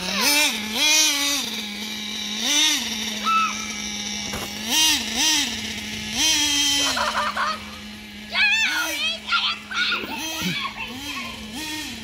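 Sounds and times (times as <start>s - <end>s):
rc buggy engine buzzing: 0.0s - 12.0s.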